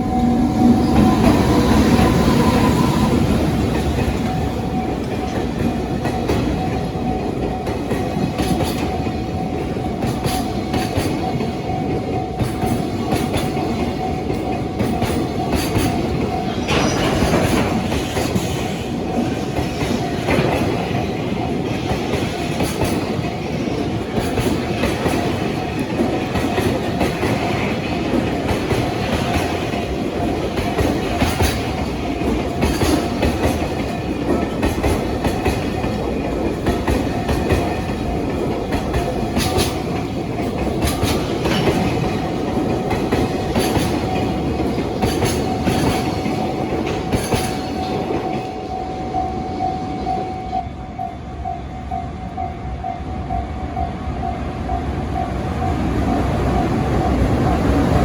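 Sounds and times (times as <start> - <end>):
train wheels clacking: 0.0 - 50.6
freight train rolling past: 0.0 - 58.0
railway crossing bell ringing: 0.0 - 58.0.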